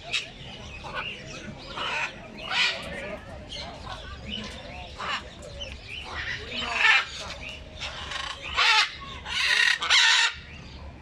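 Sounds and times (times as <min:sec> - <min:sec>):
bird chatter: 0:00.0 - 0:10.9.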